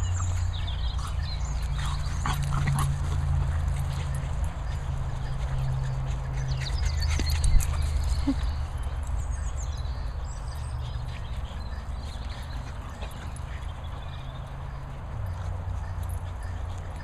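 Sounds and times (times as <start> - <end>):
dog paws tapping and clicking: 0.0 - 17.0.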